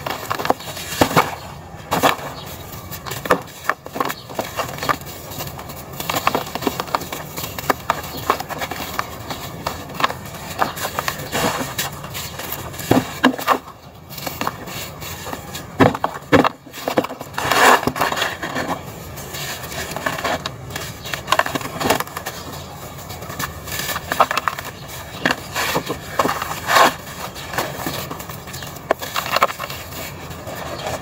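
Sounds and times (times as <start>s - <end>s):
dry dirt crunching by hand: 0.0s - 31.0s.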